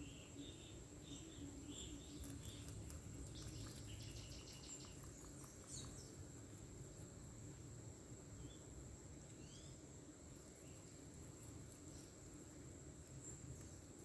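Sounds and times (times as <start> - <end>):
rabbit chewing greens: 0.0 - 14.0.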